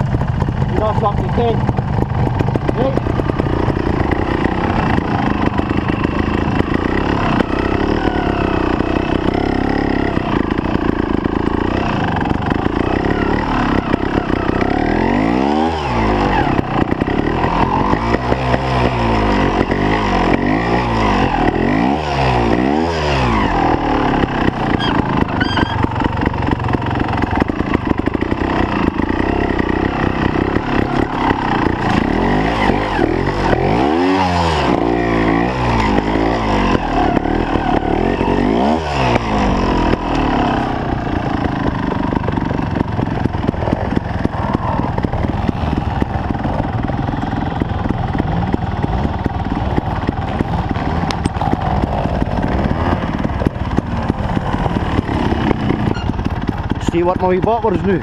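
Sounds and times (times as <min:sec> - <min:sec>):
motorcycle engine at low revs: 0:00.0 - 0:58.0
motorcycle throttle blips: 0:00.0 - 0:58.0.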